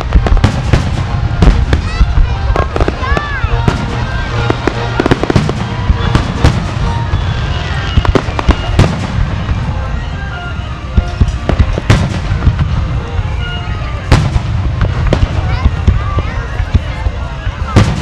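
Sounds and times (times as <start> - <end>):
continuous low rumble: 0.0 - 18.0
fireworks bursting with sharp bangs: 0.0 - 18.0.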